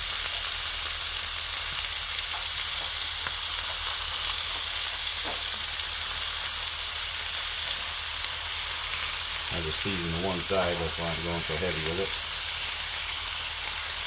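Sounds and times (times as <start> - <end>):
meat sizzling on a griddle: 0.0 - 14.0.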